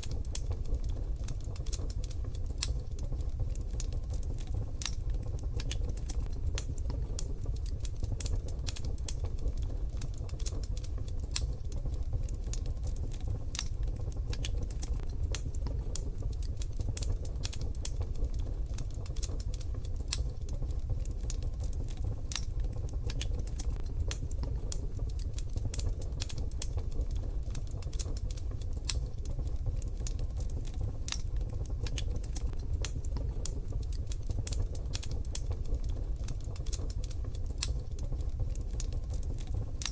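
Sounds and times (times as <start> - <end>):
stove low rumble: 0.0 - 39.9
wood fire crackling and popping: 0.0 - 39.9.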